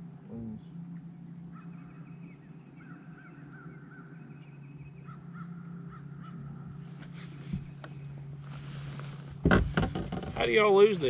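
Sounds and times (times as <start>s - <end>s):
birds calling: 0.0s - 11.0s
steady low hum: 0.0s - 11.0s.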